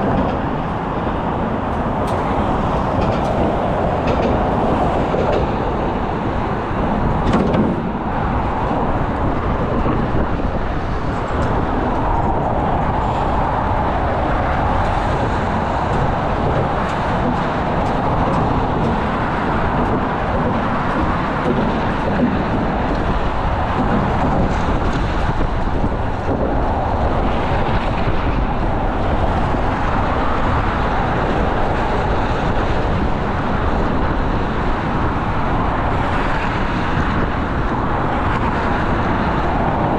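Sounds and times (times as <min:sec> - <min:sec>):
steady vehicle noise: 0:00.0 - 0:39.9.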